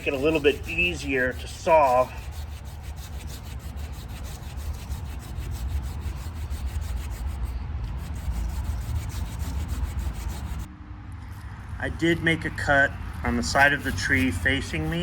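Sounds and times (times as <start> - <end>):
saw cutting wood: 0.0 - 10.7, 12.4 - 15.0.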